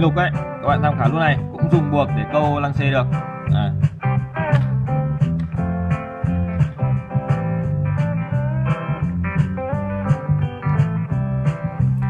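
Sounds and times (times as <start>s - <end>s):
bluesy guitar music: 0.0s - 12.0s.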